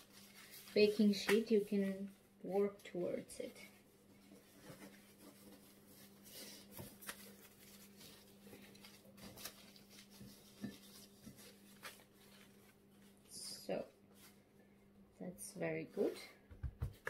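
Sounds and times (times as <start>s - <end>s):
baking paper rustling: 0.0s - 14.5s
hands rubbing dough: 0.0s - 14.5s.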